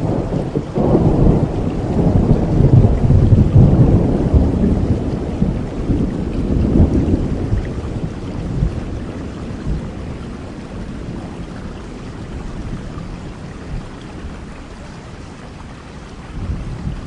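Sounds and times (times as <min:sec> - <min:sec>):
low rumble of thunder: 0:00.0 - 0:17.0
steady rain: 0:00.0 - 0:17.0.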